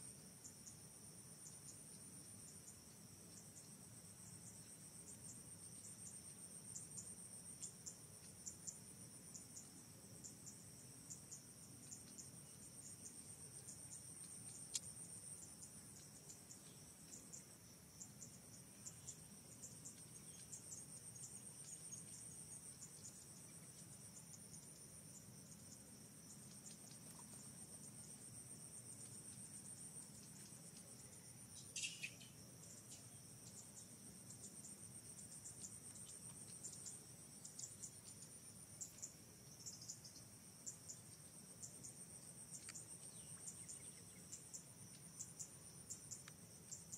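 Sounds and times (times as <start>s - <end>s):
insect chorus trilling: 0.1s - 46.9s.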